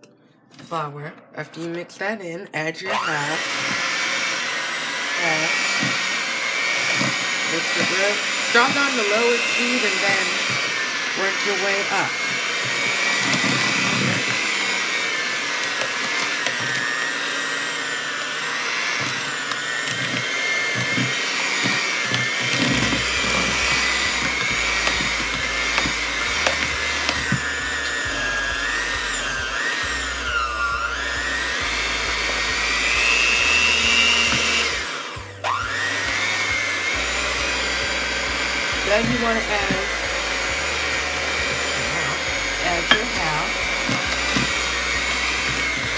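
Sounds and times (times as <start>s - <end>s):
electric hand mixer whining: 2.7s - 45.9s.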